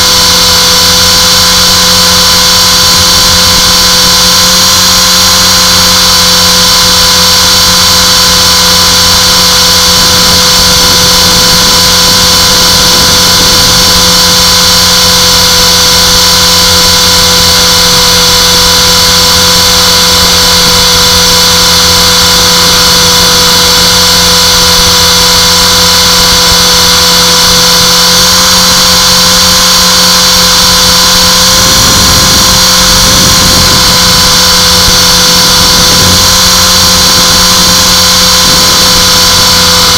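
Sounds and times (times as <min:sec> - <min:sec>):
helicopter rotor noise: 0:00.0 - 0:39.9
rc helicopter motor whine: 0:00.0 - 0:39.9.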